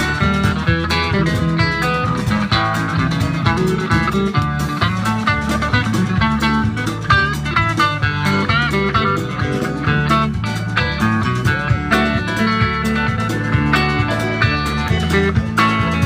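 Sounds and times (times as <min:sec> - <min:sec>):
country-rock band playing: 0:00.0 - 0:16.0
sliding guitar notes: 0:00.0 - 0:16.0
steady drum beat: 0:00.0 - 0:16.0.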